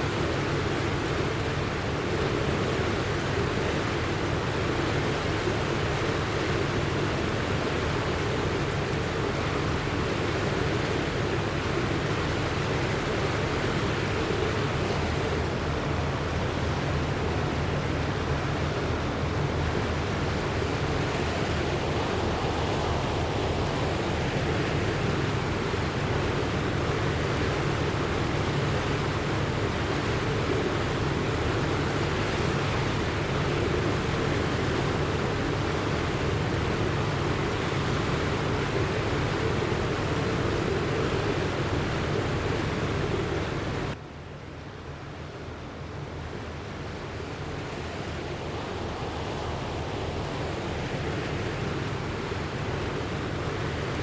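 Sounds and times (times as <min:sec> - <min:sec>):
floodwater rushing: 0:00.0 - 0:44.0, 0:45.4 - 0:54.0.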